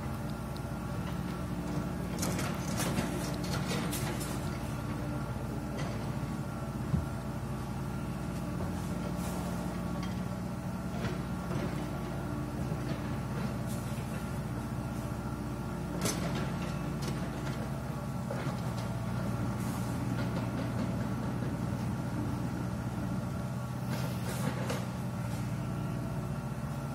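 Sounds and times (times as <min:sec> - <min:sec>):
steady motor hum: 0:00.0 - 0:26.9.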